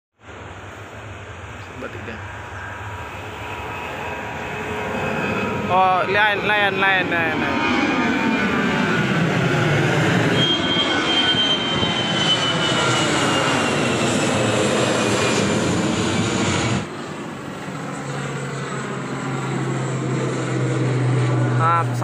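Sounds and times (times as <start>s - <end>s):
jet airliner flying overhead: 0.2s - 22.0s
turboprop airliner drone: 0.2s - 22.0s.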